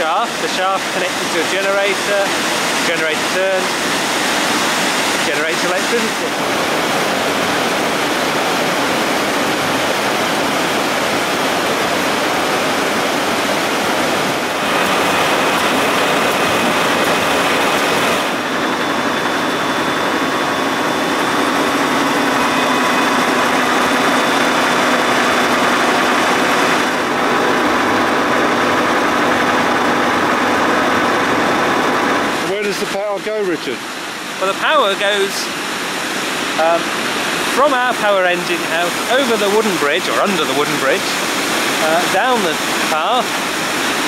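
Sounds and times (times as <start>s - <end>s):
machine whine: 0.0s - 44.0s
water rushing over weir: 0.0s - 44.0s.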